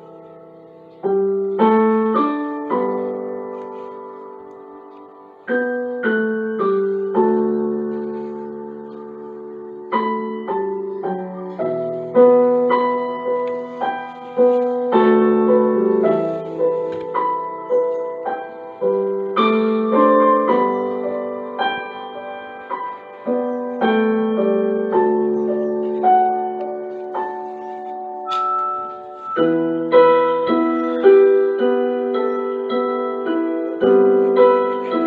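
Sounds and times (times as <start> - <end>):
gentle piano melody: 0.0 - 35.0.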